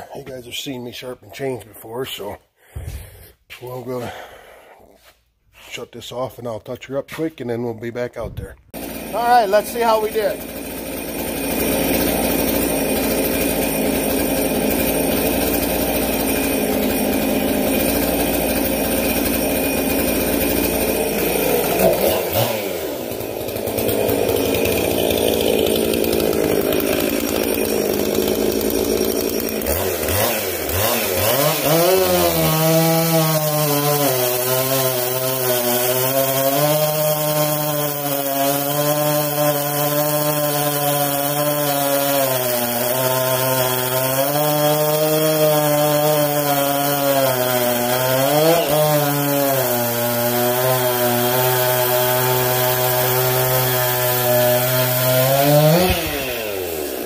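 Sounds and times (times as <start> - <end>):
chainsaw cutting a log: 8.7 - 57.0.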